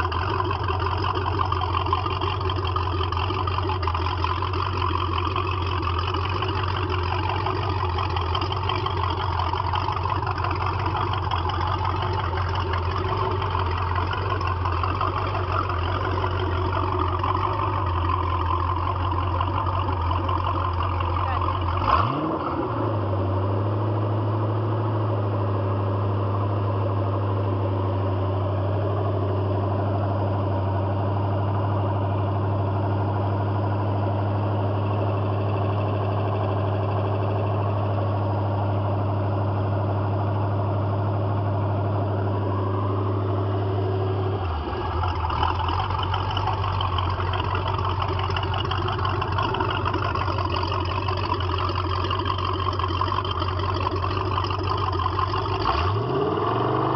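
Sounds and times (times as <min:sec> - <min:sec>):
boat engine idling: 0:00.0 - 0:56.9.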